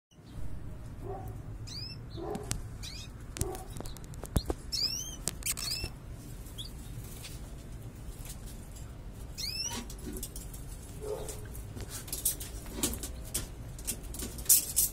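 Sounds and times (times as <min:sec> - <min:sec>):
canaries chirping: 0:00.1 - 0:14.9.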